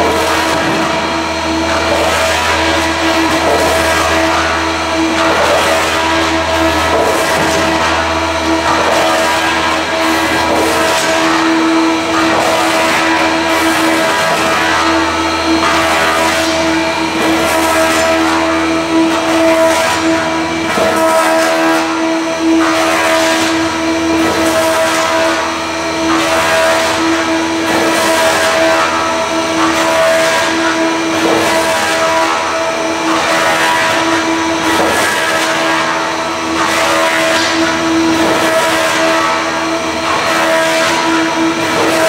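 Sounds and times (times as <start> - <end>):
wood shaving machine hum: 0.0 - 42.0.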